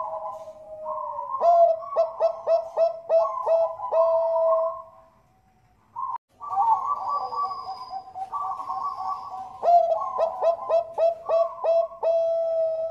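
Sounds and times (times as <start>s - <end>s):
dove cooing: 0.0s - 5.2s, 6.0s - 12.9s.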